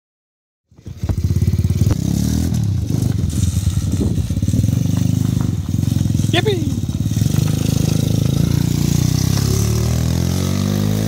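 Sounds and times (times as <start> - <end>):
small engine revving: 0.7 - 11.0.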